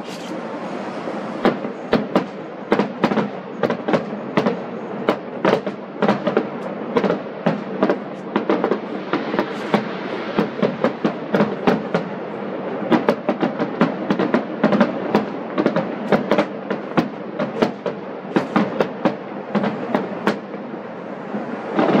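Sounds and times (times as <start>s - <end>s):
fireworks bangs and crackles: 0.0s - 22.0s
steady background noise: 0.0s - 22.0s.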